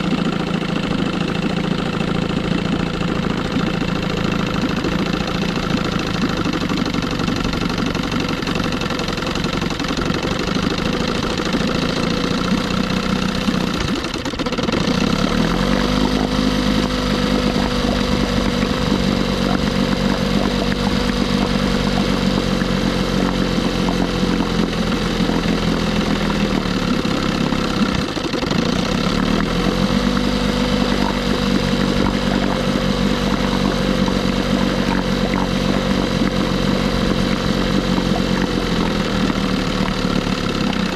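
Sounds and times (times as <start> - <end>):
outboard motor idling: 0.0 - 40.9.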